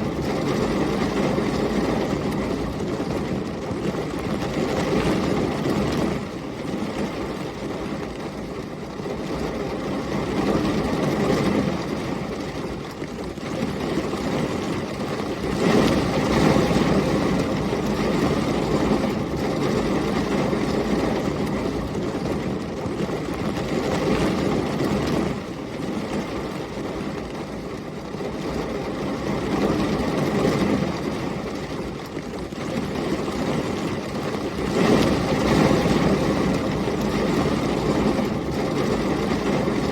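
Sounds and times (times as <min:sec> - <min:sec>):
heavy rain: 0:00.0 - 0:39.9
storm wind: 0:00.0 - 0:39.9.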